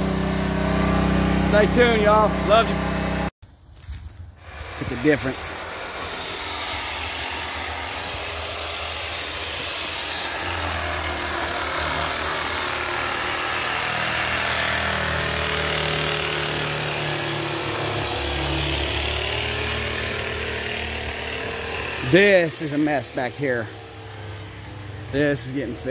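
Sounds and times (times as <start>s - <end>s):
motor-driven tool humming: 4.4s - 25.9s.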